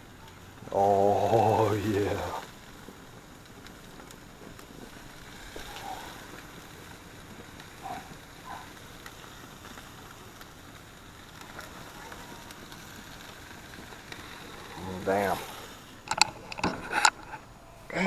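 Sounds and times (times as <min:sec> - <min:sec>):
food sizzling on a grill: 0:00.0 - 0:18.0.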